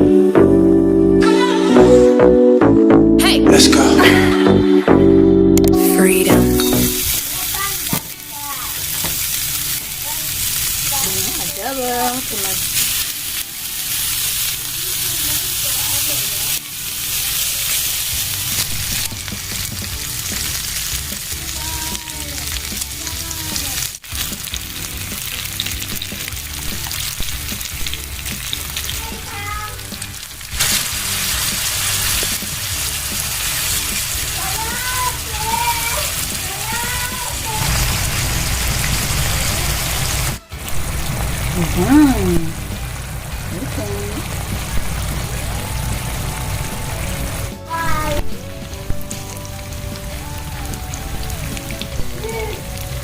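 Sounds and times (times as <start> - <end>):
food sizzling in a pan: 6.0 - 53.0.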